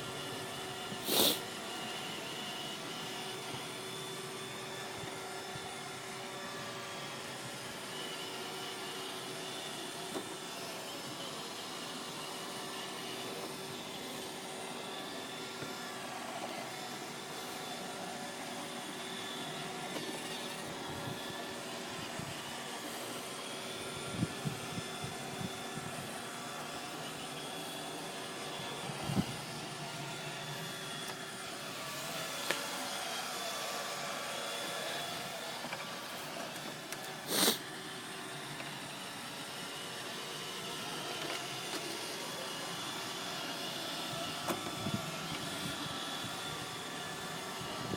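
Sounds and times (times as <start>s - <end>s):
robot vacuum whirring: 0.0s - 47.9s.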